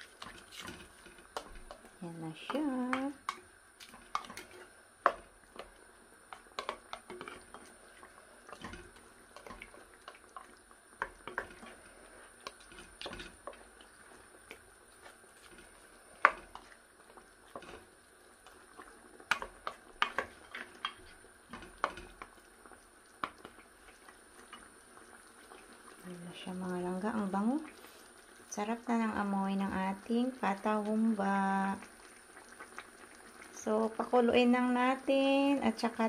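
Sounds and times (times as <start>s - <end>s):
sauce bubbling: 0.0s - 35.9s.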